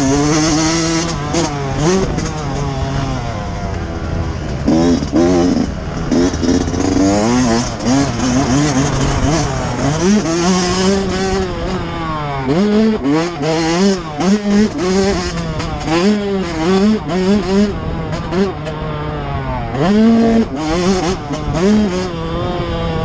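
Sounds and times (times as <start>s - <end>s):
motocross engine revving: 0.0s - 23.0s.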